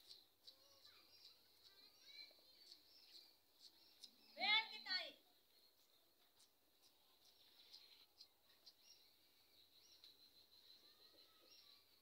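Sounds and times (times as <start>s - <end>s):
high chirps and ticks: 0.0s - 12.0s.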